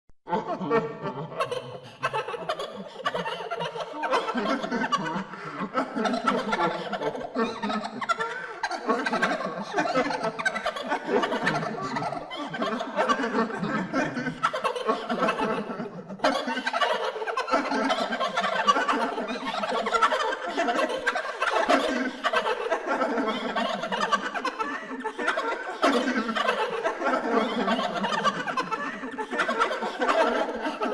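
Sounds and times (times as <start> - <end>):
person laughing maniacally: 0.3 - 30.9.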